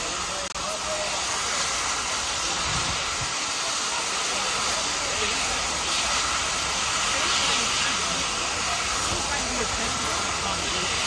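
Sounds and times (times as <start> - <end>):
steam blowing off hissing: 0.0 - 11.0.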